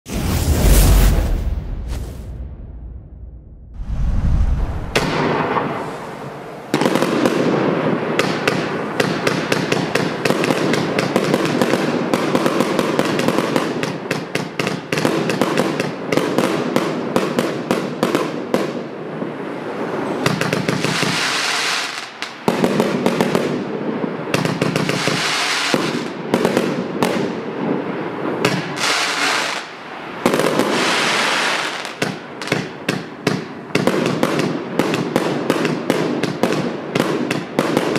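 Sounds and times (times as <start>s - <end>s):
fireworks firing rapidly: 4.9s - 18.8s, 20.2s - 27.4s, 28.4s - 37.9s.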